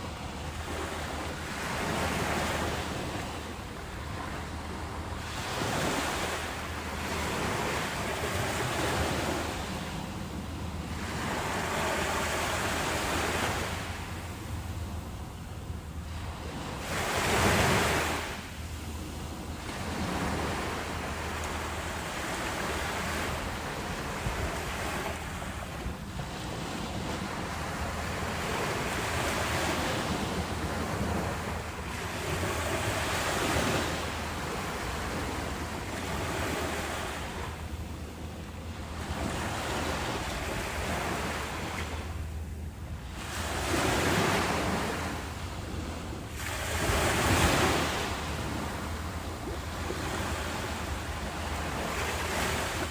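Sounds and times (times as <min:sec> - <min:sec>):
ocean waves breaking on shore: 0:00.0 - 0:52.9.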